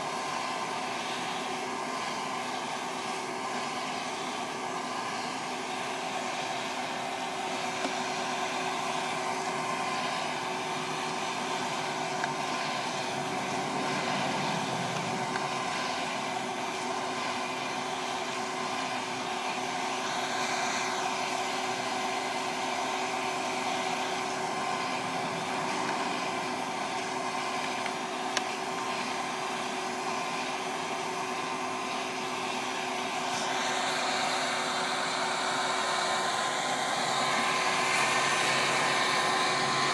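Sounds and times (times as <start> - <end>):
hot-air popper blower fan: 0.0 - 39.9.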